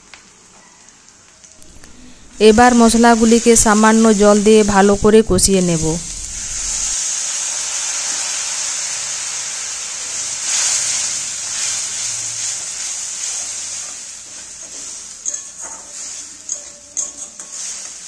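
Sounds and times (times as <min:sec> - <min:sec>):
water sizzling in hot oil: 0:00.0 - 0:18.0.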